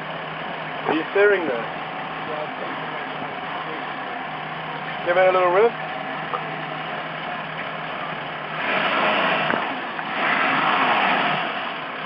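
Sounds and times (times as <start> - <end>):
boat engine idling and revving: 0.0 - 12.0.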